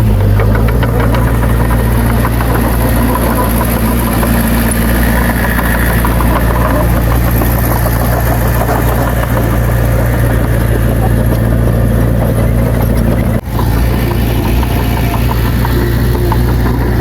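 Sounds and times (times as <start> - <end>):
diesel engine of heavy machinery: 0.0 - 17.0.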